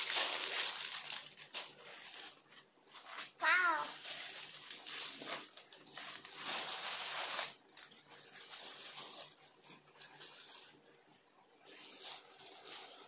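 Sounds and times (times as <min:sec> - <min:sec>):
fabric rustling: 0:00.0 - 0:13.0.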